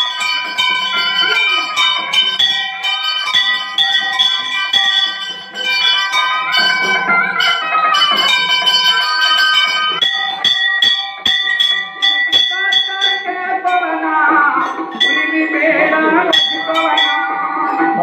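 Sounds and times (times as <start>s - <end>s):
music: 0.0s - 18.0s
temple bell ringing: 0.0s - 18.0s.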